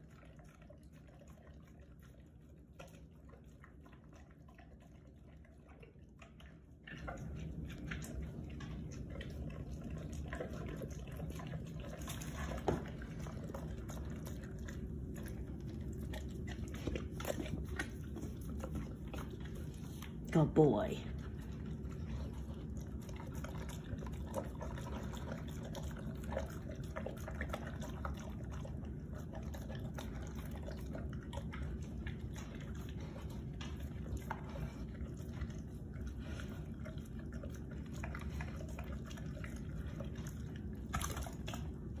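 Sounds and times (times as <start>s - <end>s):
dog chewing and slurping meat: 0.0s - 42.0s.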